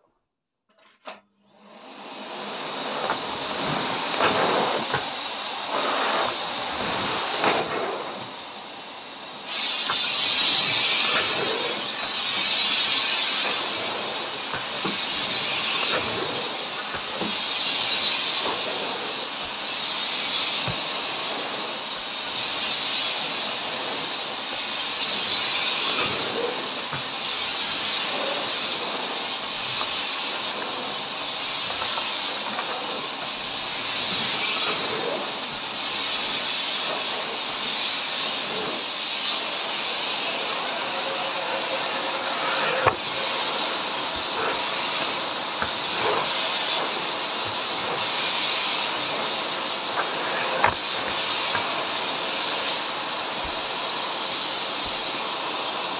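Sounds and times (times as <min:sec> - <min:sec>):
vacuum cleaner on a rug: 0:00.8 - 0:55.9.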